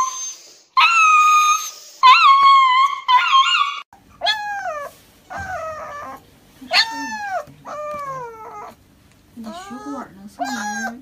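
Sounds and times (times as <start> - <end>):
puppy whining cries: 0.0 - 8.8, 9.4 - 11.0.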